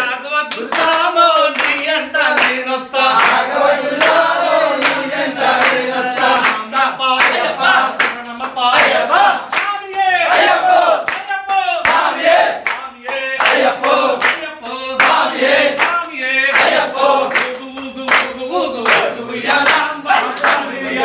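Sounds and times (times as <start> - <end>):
men chanting together: 0.0 - 21.0
rhythmic hand clapping: 0.0 - 21.0.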